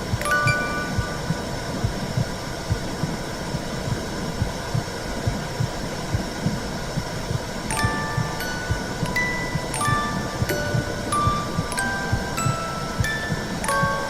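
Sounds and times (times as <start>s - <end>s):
heartbeat thumps: 0.0s - 14.0s
rushing hiss: 0.0s - 14.0s.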